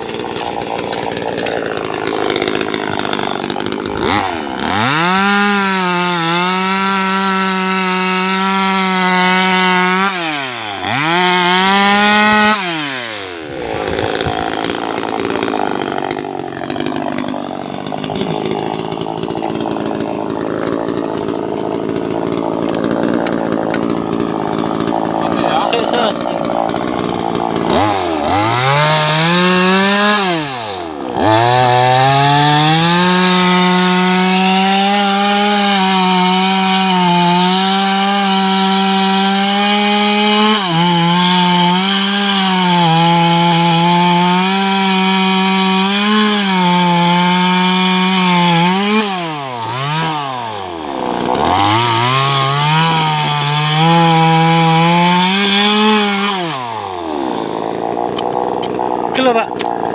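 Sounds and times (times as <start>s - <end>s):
chainsaw cutting into roots: 0.0s - 59.9s.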